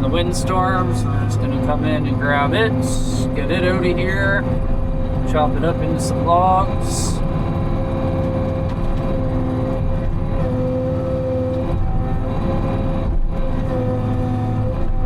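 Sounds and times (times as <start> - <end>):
diesel engine running: 0.0 - 15.0
hydraulic whine: 0.0 - 15.0.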